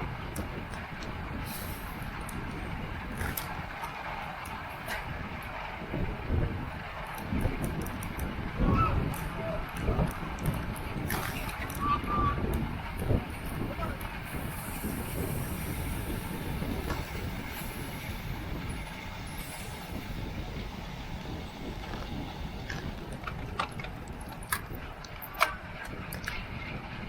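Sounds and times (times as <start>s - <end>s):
bicycle road noise: 0.0s - 27.0s
wind rushing over microphone: 0.0s - 27.0s.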